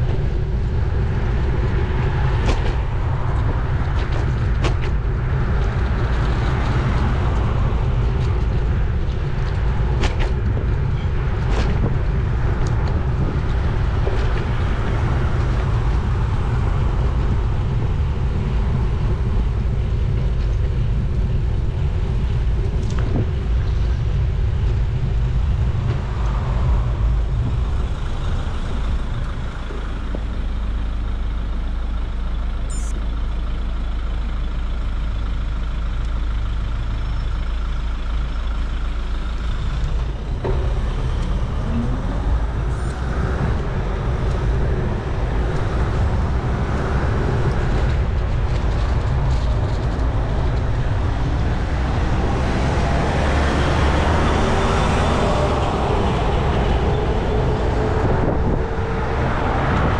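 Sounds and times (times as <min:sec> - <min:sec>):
wind rumbling on microphone: 0:00.0 - 0:33.2, 0:35.8 - 0:59.9
road traffic passing: 0:00.0 - 0:59.9.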